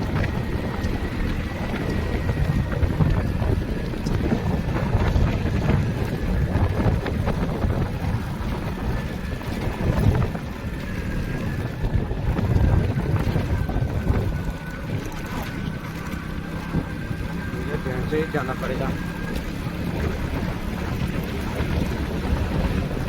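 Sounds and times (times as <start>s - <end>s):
motorcycle engine rumble: 0.0s - 23.0s
wind buffeting microphone: 0.0s - 23.0s.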